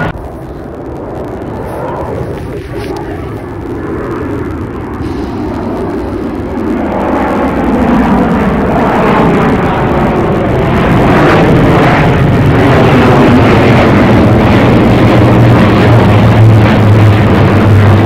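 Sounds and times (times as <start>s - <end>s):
airplane engine rushing: 0.0s - 18.0s
low hum: 0.0s - 18.0s.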